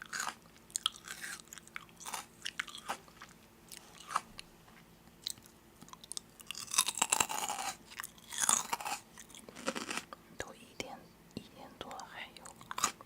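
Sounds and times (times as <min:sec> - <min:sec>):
crisp food crunching: 0:00.0 - 0:10.1, 0:12.4 - 0:13.0.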